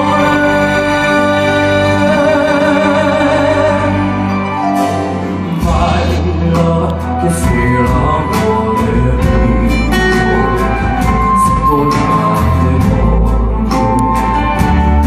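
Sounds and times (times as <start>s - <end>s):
bass and drums: 0.0s - 15.0s
man singing with vibrato: 0.0s - 15.0s.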